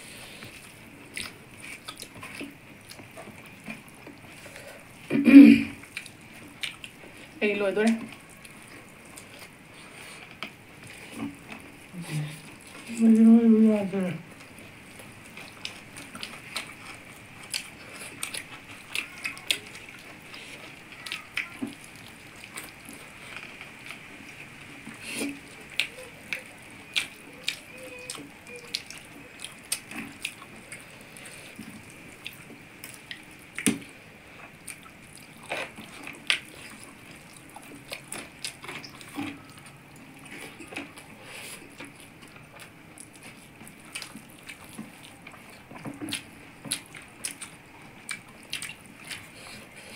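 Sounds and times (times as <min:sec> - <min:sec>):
wet chewing: 0:00.0 - 0:05.1, 0:05.8 - 0:13.3, 0:14.2 - 0:49.9.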